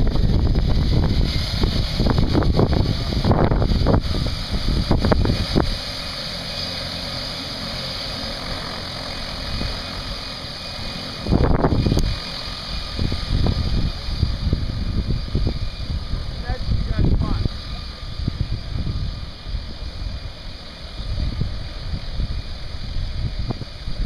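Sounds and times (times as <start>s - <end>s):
turboprop engine running: 0.0s - 24.0s
wind buffeting microphone: 0.0s - 24.0s.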